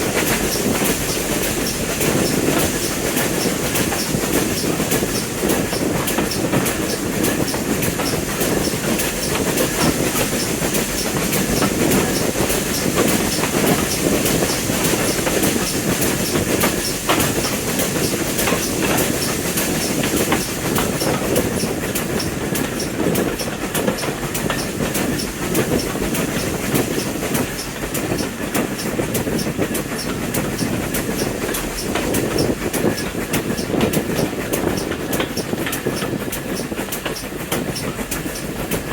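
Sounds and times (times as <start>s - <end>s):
train rumbling: 0.0s - 38.9s
wheels clicking over rail joints: 0.0s - 38.9s.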